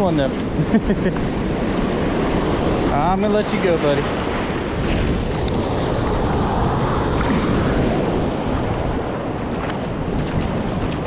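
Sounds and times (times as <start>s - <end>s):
breaking surf: 0.0s - 11.0s
wind noise on microphone: 0.0s - 11.0s.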